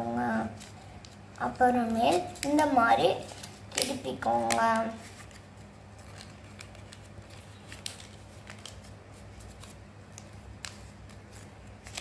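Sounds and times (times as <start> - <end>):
paper rustling and creasing: 0.4 - 12.0.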